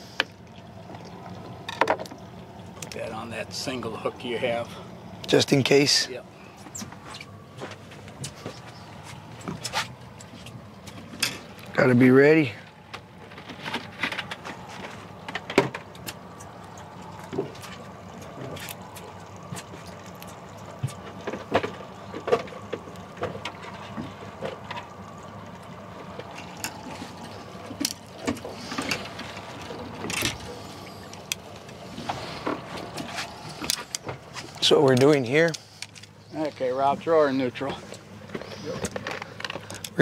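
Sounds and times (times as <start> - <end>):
outboard motor running: 0.0 - 40.0.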